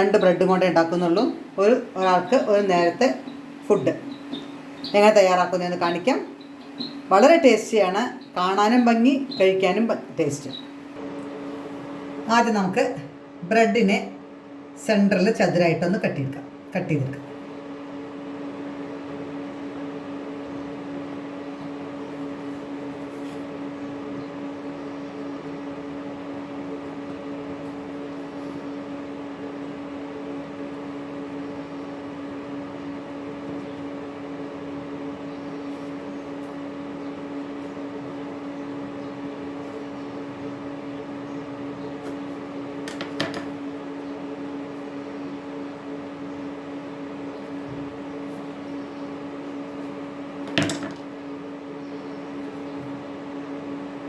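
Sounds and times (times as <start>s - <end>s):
appliance motor humming: 0.0s - 13.4s, 16.6s - 54.0s.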